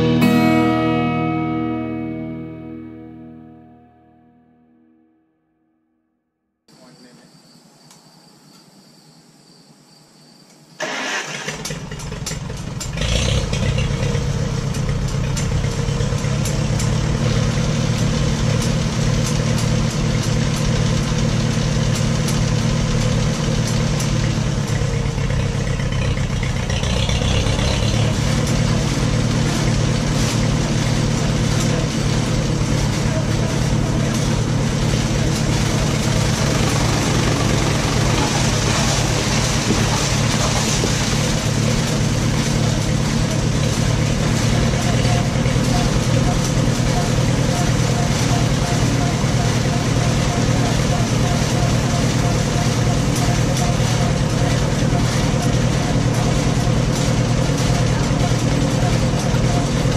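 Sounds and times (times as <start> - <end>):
tractor engine running: 10.8 - 59.9.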